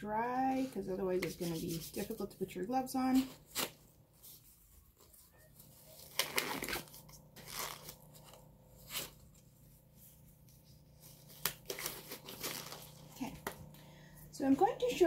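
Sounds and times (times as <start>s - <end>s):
faint steady hum: 0.0s - 15.0s
rubber gloves rustling: 0.3s - 15.0s.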